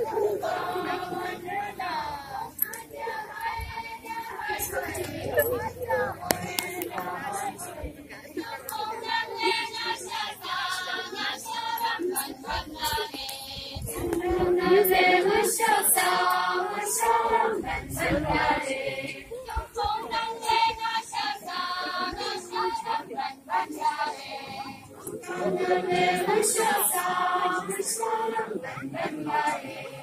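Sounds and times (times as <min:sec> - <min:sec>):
women and children singing chant: 0:00.0 - 0:30.0.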